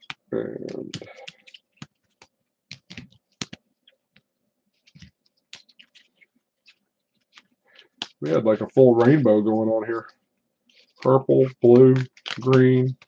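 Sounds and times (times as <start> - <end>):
trading cards clicking and tapping: 0.0 - 13.0.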